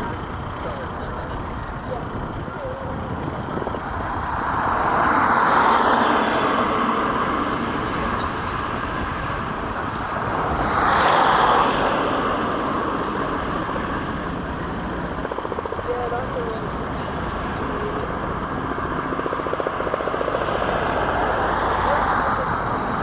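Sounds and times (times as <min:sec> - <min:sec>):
helicopter rushing noise: 0:00.0 - 0:23.0.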